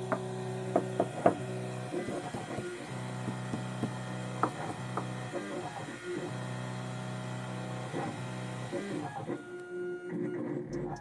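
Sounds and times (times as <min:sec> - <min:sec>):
key-cutting machine motors humming: 0:00.0 - 0:10.9.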